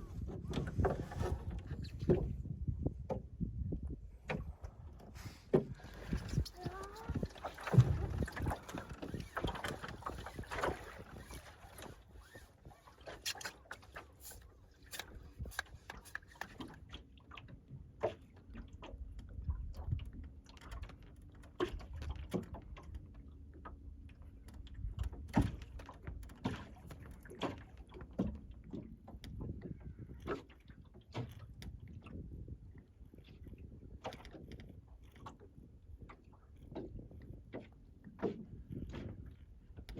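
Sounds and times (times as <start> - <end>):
wooden boat knocks and creaks: 0.0 - 14.1, 14.9 - 39.9
wind: 0.0 - 39.9.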